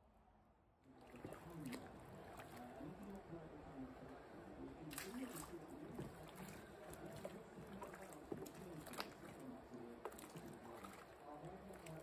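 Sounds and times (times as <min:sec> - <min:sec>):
faint water sloshing: 0:00.8 - 0:04.1, 0:04.8 - 0:12.0.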